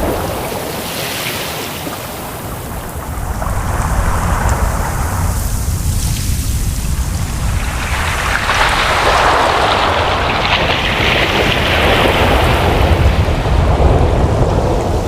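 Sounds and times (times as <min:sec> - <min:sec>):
deep rumble of surf: 0:00.0 - 0:15.0.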